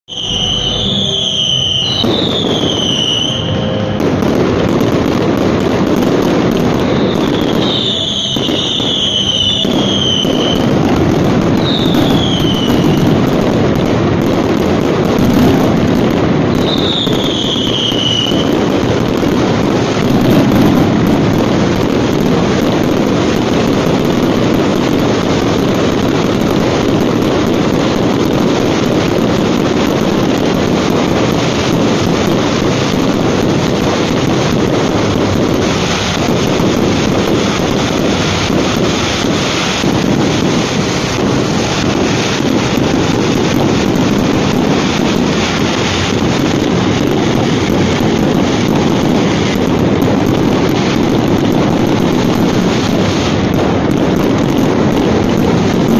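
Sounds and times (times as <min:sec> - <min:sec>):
falling firework whistles: 0:00.0 - 0:55.9
fireworks bangs and crackling: 0:00.0 - 0:55.9.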